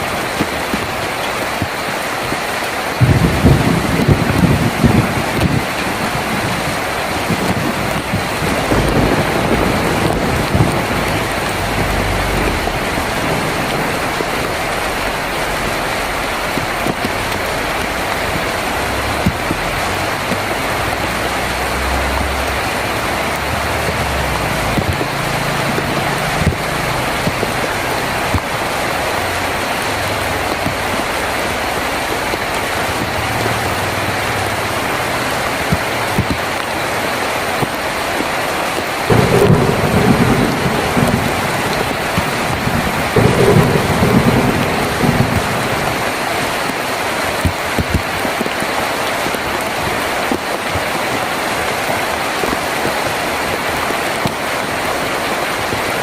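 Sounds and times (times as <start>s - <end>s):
distant thunder rumbling: 0.0s - 49.6s
heavy rain on a tin roof: 0.0s - 56.0s.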